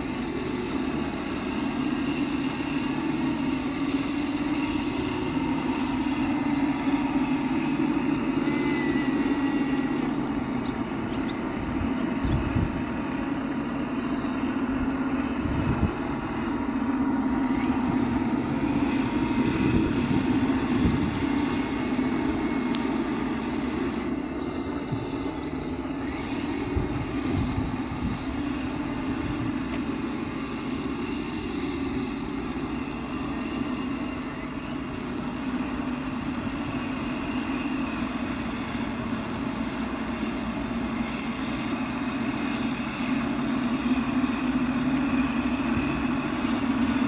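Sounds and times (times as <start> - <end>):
motor droning: 0.0 - 47.0.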